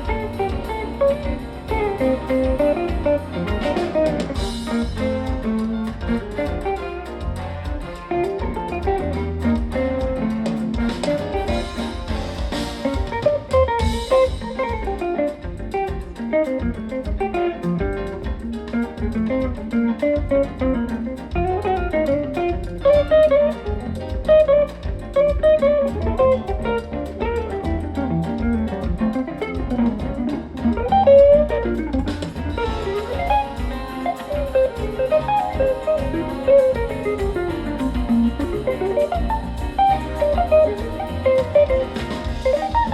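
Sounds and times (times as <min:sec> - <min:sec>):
guitar melodic runs: 0:00.0 - 0:42.9
live jazz band: 0:00.0 - 0:42.9.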